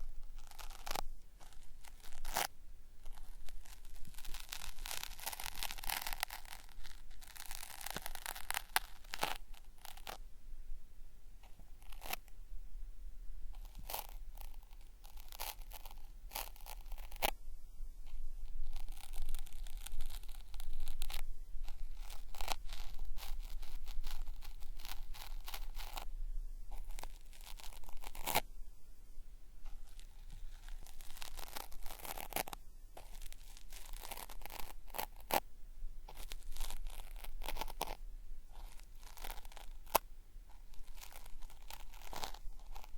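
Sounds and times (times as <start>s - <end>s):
cotton swab scraping microphone: 0.0s - 10.2s, 11.4s - 12.4s, 13.5s - 42.9s.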